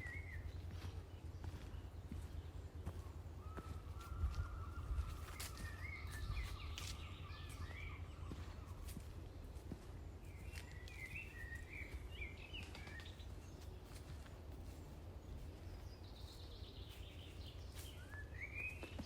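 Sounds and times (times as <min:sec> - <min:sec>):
low outdoor rumble: 0:00.0 - 0:18.7
footsteps on a trail: 0:00.0 - 0:19.0
small birds chirping: 0:00.0 - 0:19.0.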